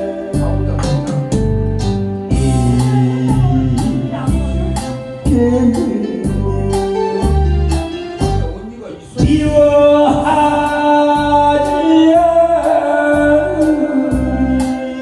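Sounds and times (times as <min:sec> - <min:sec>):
bass and steady beat: 0:00.0 - 0:15.0
keyboard melody: 0:00.0 - 0:15.0.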